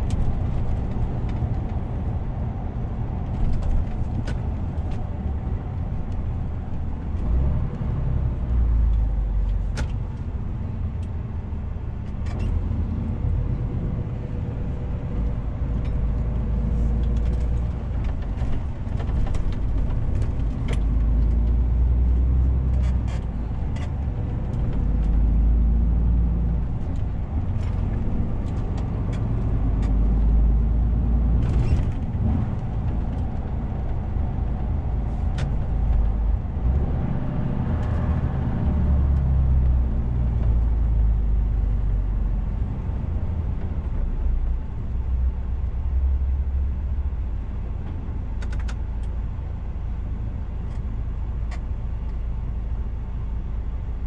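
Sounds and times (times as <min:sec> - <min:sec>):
truck engine drone in cab: 0:00.0 - 0:54.0.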